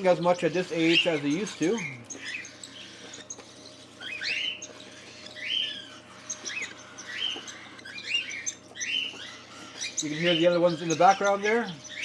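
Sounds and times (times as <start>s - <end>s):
cockatiels calling harshly: 0.0s - 12.0s.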